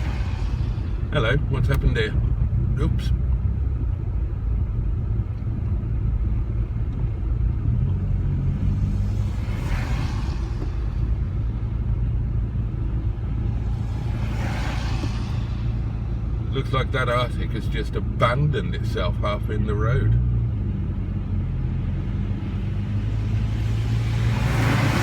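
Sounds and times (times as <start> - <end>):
engine and road rumble in car: 0.0 - 25.0.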